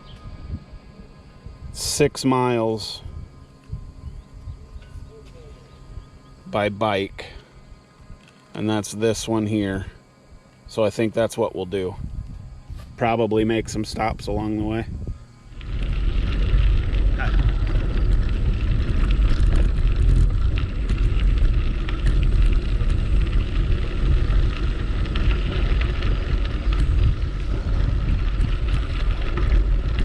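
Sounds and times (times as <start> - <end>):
wind buffeting microphone: 0.0 - 7.4, 11.6 - 30.0
faint ticks and rattles: 1.0 - 30.0.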